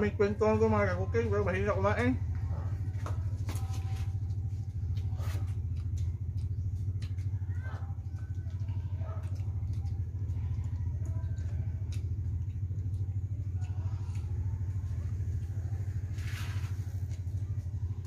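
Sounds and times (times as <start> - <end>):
low motor rumble: 0.0 - 18.0.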